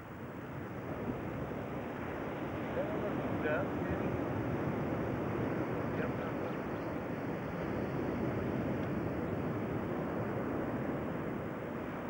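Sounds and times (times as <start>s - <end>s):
steady rushing outdoor noise: 0.0s - 12.0s.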